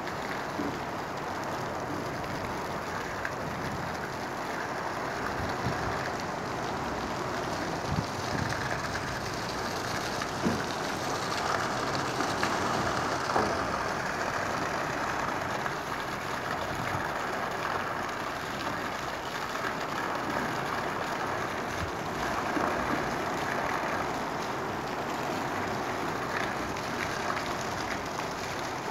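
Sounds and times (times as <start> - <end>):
heavy rain falling: 0.0 - 28.9
water pouring into a puddle: 0.0 - 28.9.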